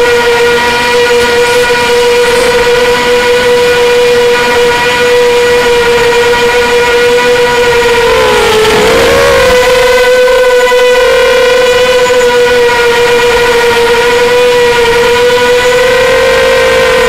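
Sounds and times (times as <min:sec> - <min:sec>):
quadcopter motors high whine: 0:00.0 - 0:17.0.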